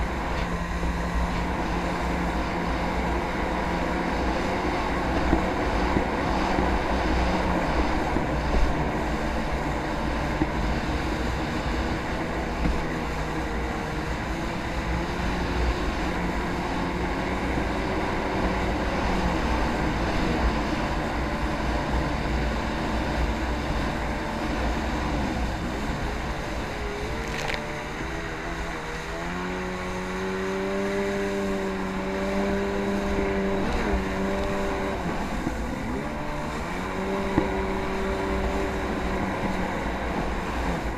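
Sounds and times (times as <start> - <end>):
jet ski engine running: 0.0 - 40.9.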